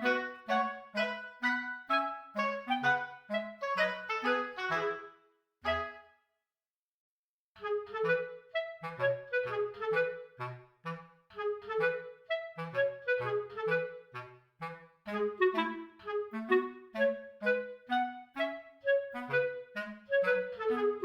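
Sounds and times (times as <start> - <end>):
bouncy woodwind tune: 0.0 - 6.2, 7.6 - 21.0.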